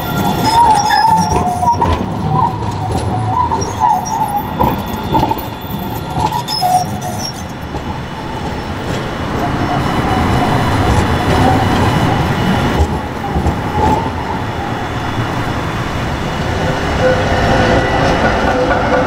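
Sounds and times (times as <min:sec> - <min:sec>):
wheels squealing on track: 0:00.0 - 0:15.4
tram running gear rumbling: 0:00.0 - 0:19.0.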